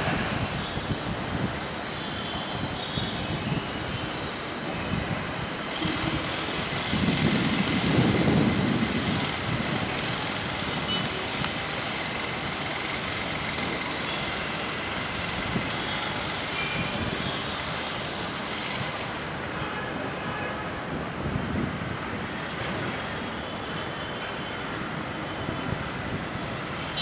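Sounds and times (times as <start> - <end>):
background traffic noise: 0.0 - 27.0.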